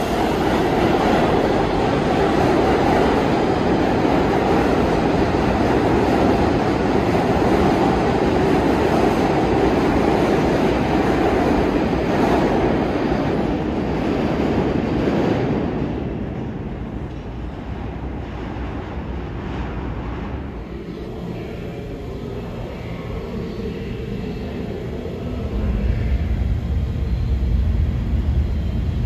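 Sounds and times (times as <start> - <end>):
subway train wheels rumbling on rail: 0.0 - 29.0.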